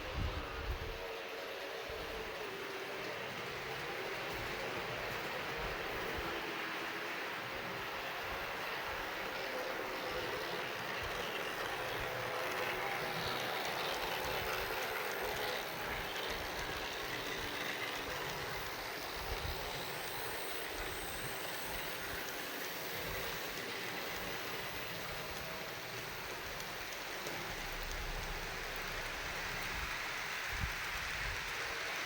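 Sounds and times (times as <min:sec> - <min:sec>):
locomotive motors humming: 0:00.0 - 0:32.0
model train wheels rattling on rail: 0:00.0 - 0:32.0.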